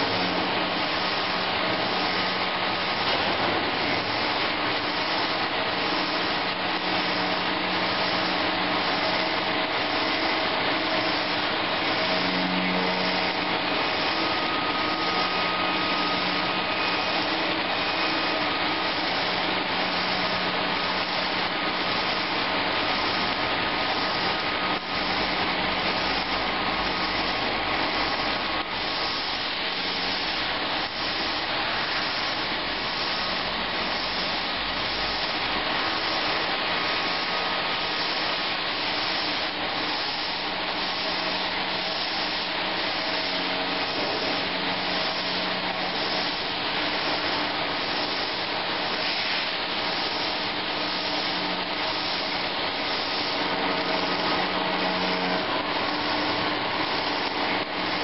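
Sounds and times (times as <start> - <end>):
stone grinding hiss: 0.0 - 58.0.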